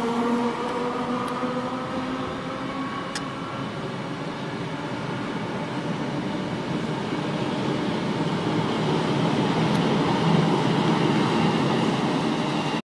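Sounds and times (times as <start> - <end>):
electric train pulling out: 0.0 - 12.8.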